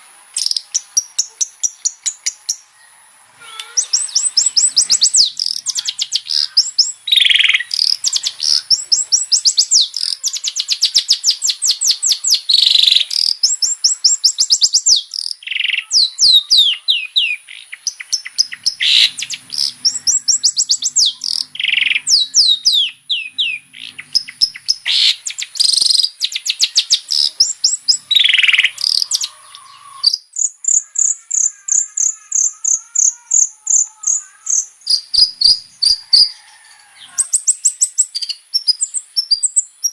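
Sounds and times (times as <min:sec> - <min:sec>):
bird singing varied song: 0:00.0 - 0:39.9
harsh rasping bird calls: 0:00.0 - 0:39.9.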